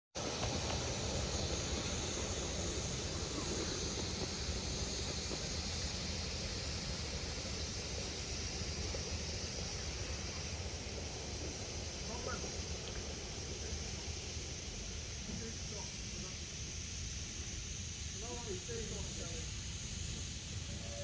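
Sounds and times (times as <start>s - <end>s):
hiss of steam: 0.2s - 21.0s.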